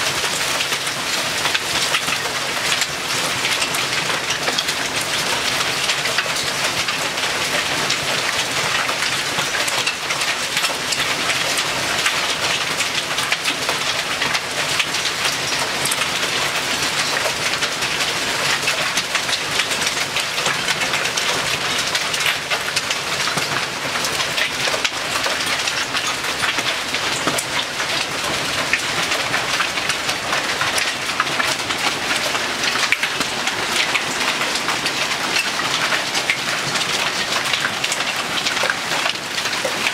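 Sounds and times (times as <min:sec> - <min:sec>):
hail and rain pelting: 0:00.0 - 0:39.9.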